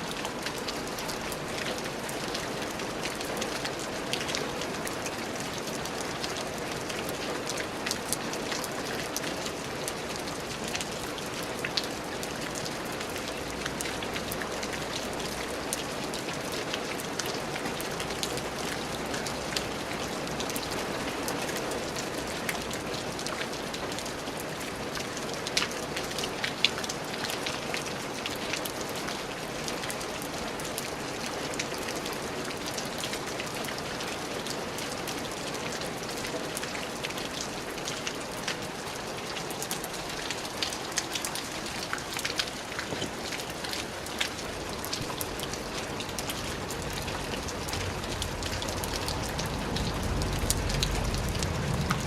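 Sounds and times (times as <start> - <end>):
steady rain patter: 0.0 - 52.0.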